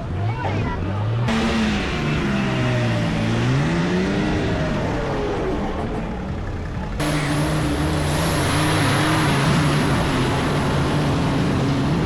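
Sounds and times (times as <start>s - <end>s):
off-road vehicle engine revving: 0.0s - 12.0s
heavy rushing noise: 1.3s - 12.0s.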